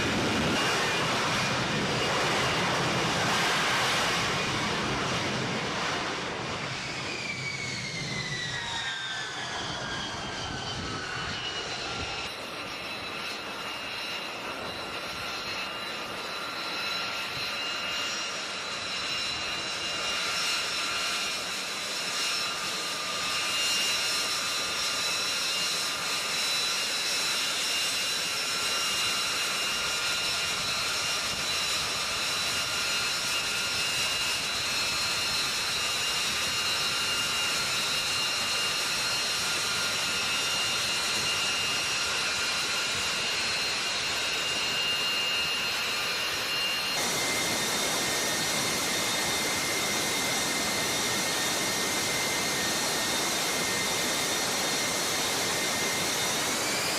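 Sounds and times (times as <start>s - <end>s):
jet engine rush and whine: 0.0s - 56.9s.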